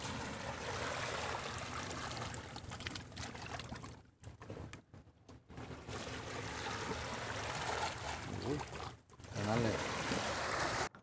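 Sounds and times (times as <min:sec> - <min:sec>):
seawater washing among rocks: 0:00.0 - 0:03.9, 0:05.6 - 0:10.9.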